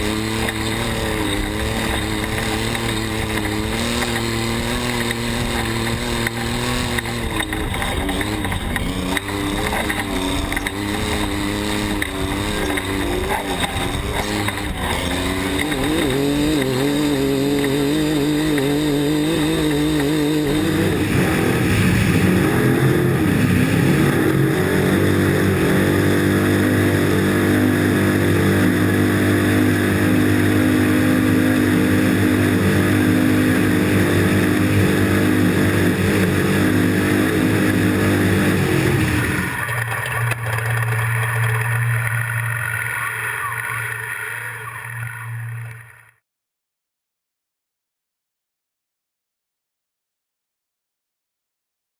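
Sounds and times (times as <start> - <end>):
racing engines: 0.0 - 46.2.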